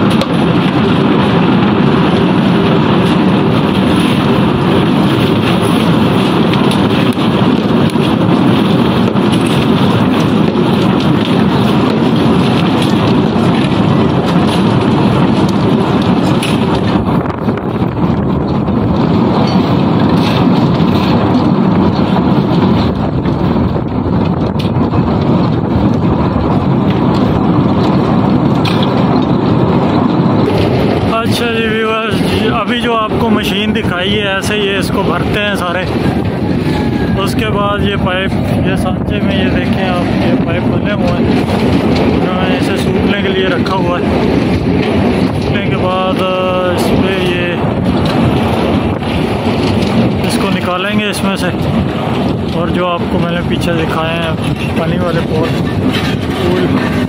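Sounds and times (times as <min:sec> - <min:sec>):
pipe spinning machine running: 0:00.0 - 0:57.0.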